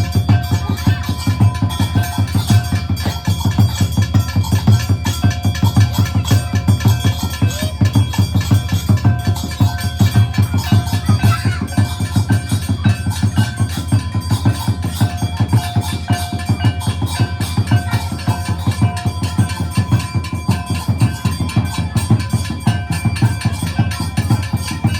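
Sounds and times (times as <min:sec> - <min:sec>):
fast steady drumming: 0:00.0 - 0:24.9.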